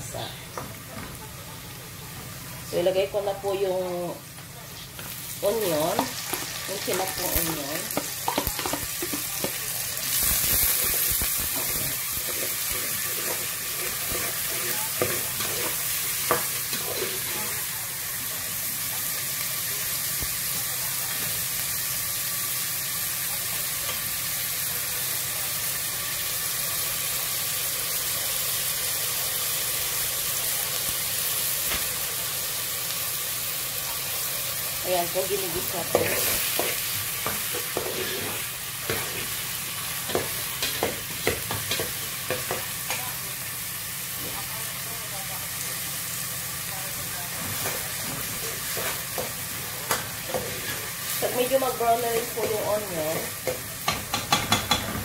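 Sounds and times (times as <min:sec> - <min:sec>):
onion sizzling in hot oil: 0:00.0 - 0:55.0.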